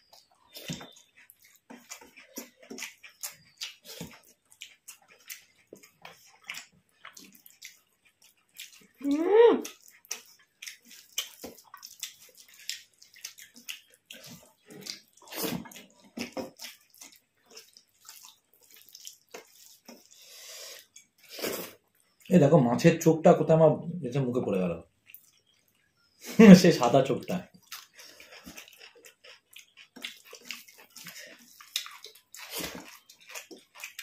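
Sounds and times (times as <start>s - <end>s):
chewing and lip smacks: 0.0s - 22.4s, 24.9s - 26.2s, 27.4s - 34.0s.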